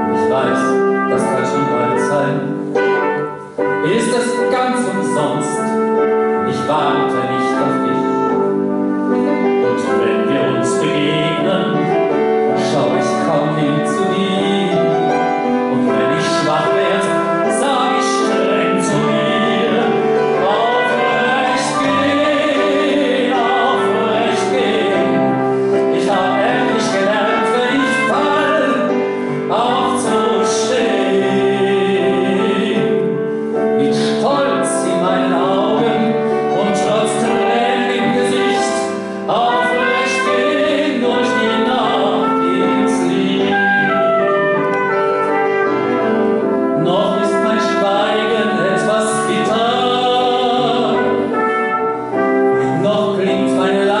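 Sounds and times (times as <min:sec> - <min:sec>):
grand piano: 0:00.0 - 0:54.0
man singing: 0:00.0 - 0:54.0
trumpet: 0:00.0 - 0:54.0.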